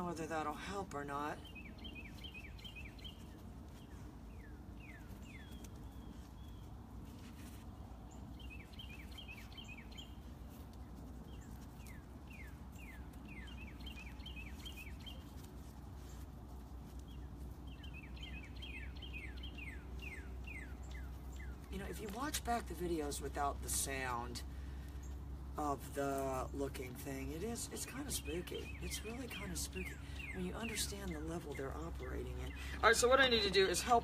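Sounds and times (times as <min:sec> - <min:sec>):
low background rumble: 0:00.0 - 0:34.0
songbird singing: 0:00.0 - 0:34.0.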